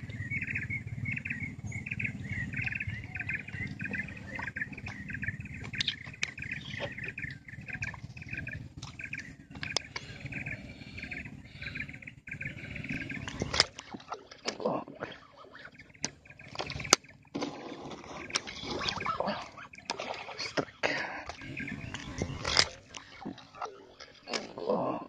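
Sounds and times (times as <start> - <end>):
low rumble: 0.0 - 23.6
birds chirping: 0.0 - 25.0.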